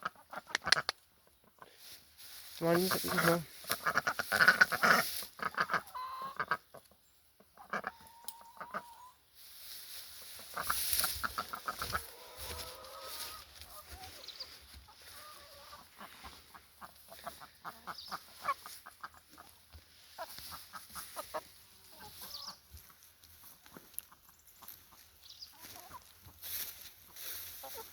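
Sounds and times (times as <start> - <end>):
hens clucking: 0.0 - 9.3, 10.0 - 27.9.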